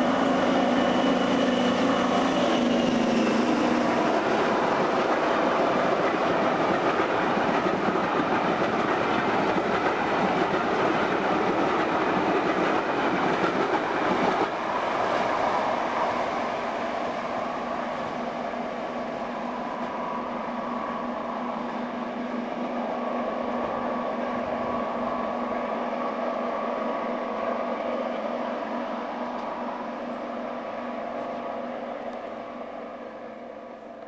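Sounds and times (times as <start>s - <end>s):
diesel locomotive engines droning: 0.0s - 34.0s.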